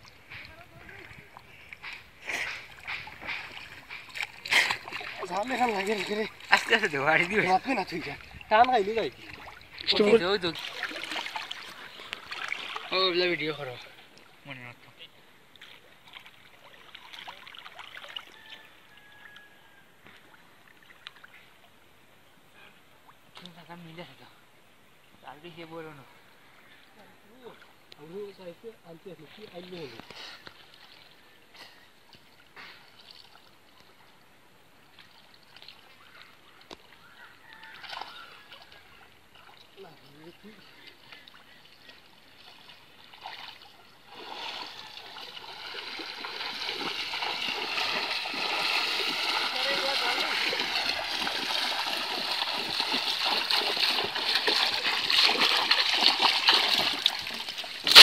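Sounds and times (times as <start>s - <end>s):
soft water splashes: 0.0s - 21.9s, 25.8s - 58.0s
river water trickling: 0.0s - 58.0s.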